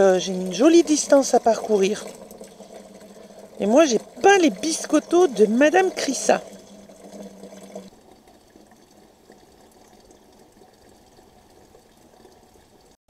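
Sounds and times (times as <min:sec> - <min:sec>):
tap water filling watering can: 0:00.0 - 0:13.0.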